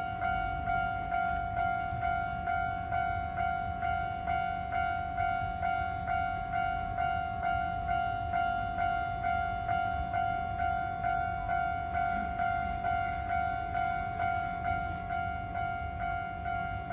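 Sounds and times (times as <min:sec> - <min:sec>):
railroad crossing alarm ringing: 0:00.0 - 0:16.9.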